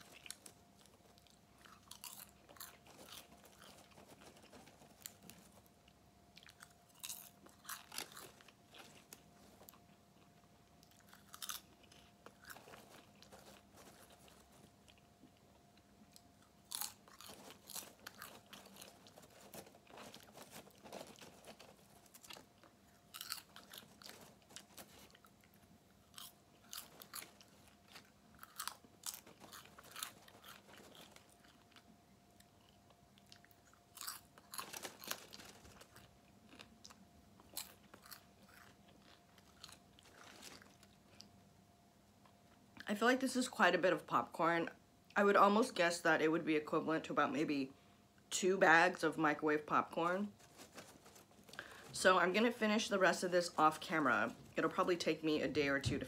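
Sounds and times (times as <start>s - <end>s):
popcorn crunching: 0.0s - 41.5s, 48.9s - 56.0s
faint steady hum: 0.0s - 56.0s.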